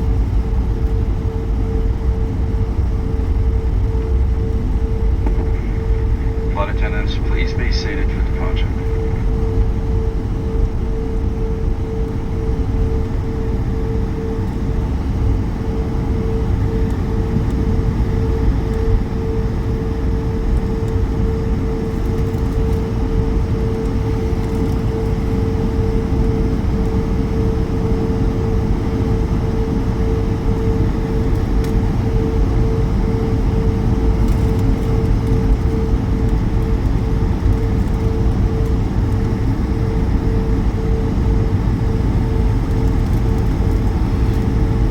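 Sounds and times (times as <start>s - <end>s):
jet engines in cabin: 0.0s - 44.9s.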